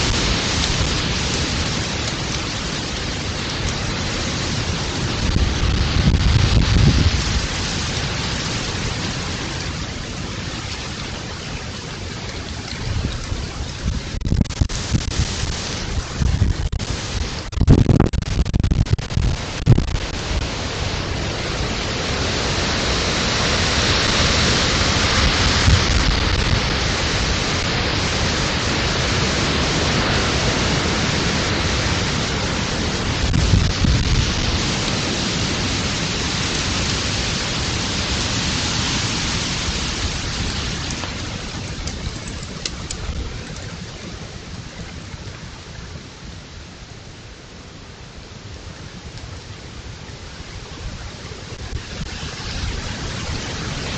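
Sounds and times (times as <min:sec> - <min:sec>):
wind buffeting microphone: 0:00.0 - 0:47.4
wind through trees: 0:00.0 - 0:53.9.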